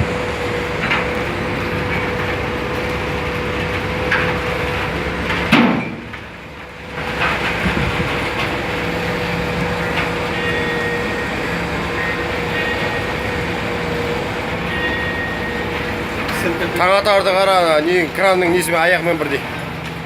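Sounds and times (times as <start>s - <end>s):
engine knocks: 0.0s - 20.0s
machine engine running: 0.0s - 20.0s.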